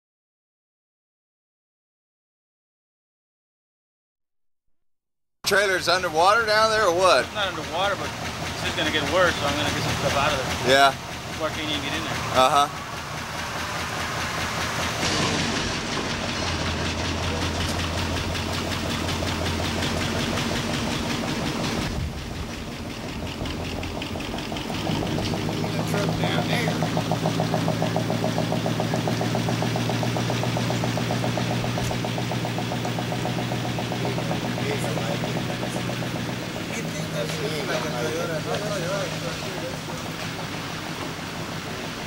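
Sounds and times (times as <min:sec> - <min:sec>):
pickup truck engine idling: 0:05.5 - 0:42.0.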